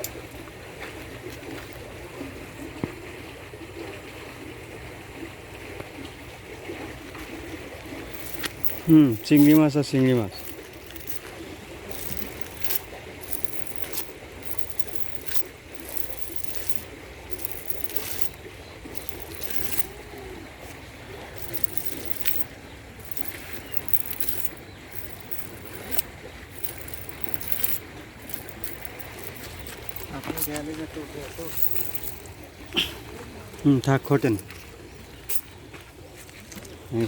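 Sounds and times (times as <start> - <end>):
water trickling and splashing: 0.0 - 37.0.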